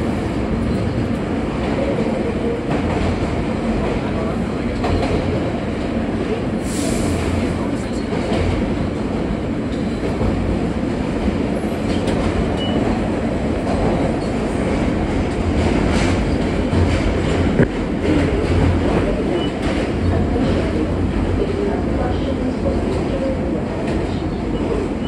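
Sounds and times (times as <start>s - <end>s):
subway car rumbling on track: 0.0s - 25.0s.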